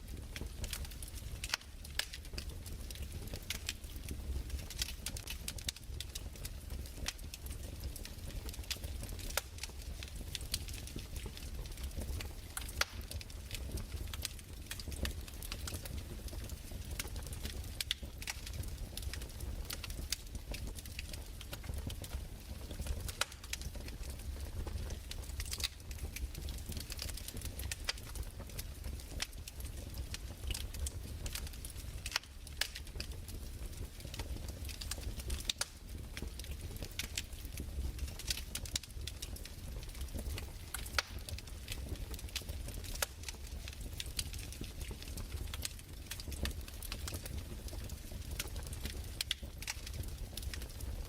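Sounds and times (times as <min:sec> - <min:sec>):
fire low rumble: 0:00.0 - 0:51.0
wood fire pops and snaps: 0:00.1 - 0:51.0.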